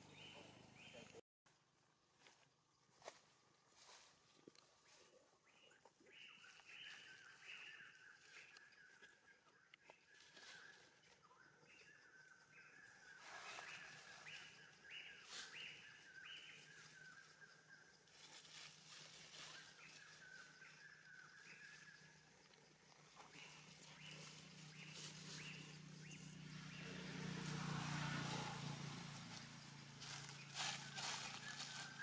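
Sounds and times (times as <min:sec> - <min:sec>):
faint outdoor background: 0:00.0 - 0:31.9.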